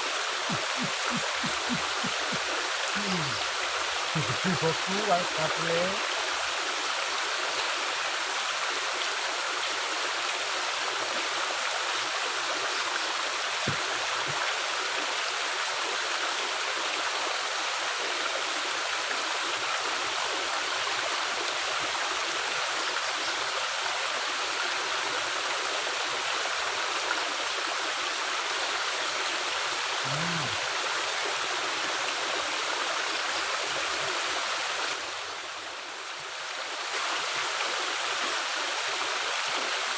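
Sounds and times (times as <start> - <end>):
water rushing through a culvert: 0.0 - 39.9.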